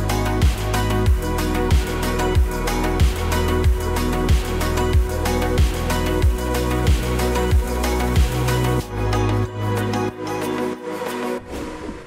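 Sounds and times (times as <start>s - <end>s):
electronic music kick drum: 0.0s - 10.2s
sustained bass notes: 0.0s - 10.2s.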